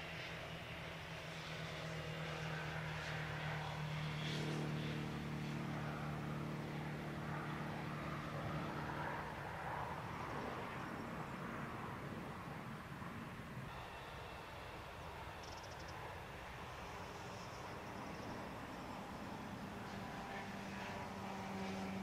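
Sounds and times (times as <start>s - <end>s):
jet engines idling: 2.0s - 22.0s.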